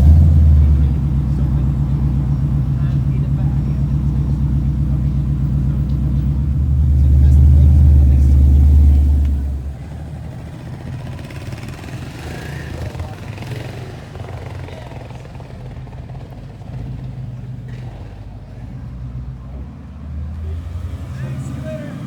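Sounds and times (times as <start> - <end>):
car engine running at low revs: 0.0 - 22.0
faint voices: 0.0 - 22.0.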